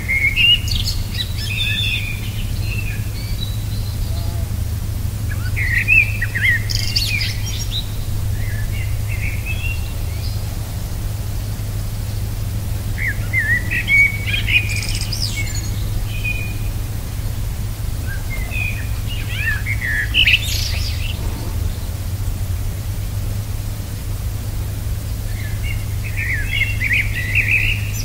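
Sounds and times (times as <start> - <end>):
birds twittering: 0.0 - 28.0
steady low rumble: 0.0 - 28.0.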